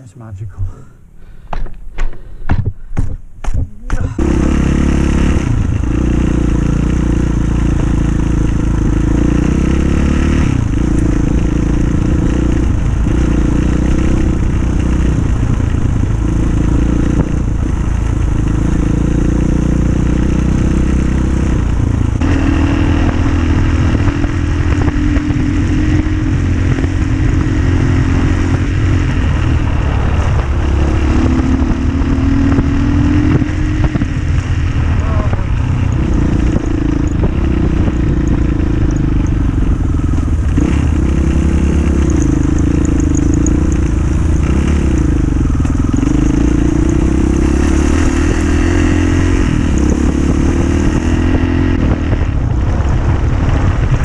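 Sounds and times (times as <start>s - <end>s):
motorcycle engine revving: 3.4s - 54.0s.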